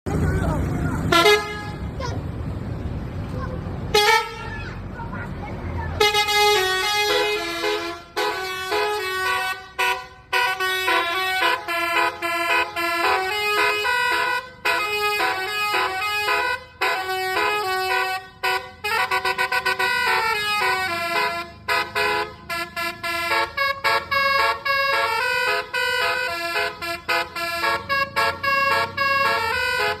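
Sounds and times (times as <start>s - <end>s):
musical air horn melody: 3.9s - 4.6s, 6.0s - 30.0s.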